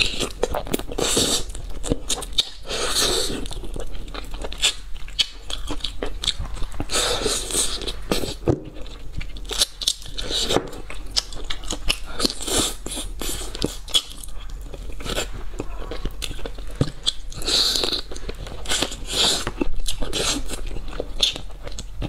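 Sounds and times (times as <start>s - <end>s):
close-miked chewing and crunching: 0.0s - 22.0s.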